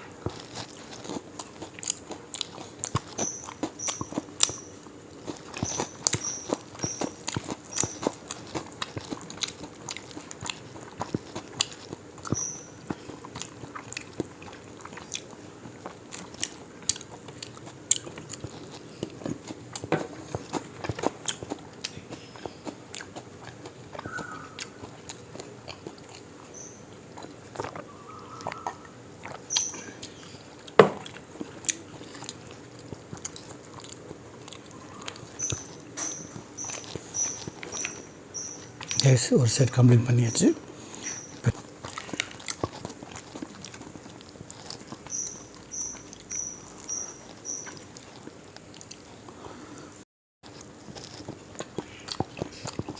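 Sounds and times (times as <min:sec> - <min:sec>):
chewing crunchy food: 0:00.0 - 0:52.9.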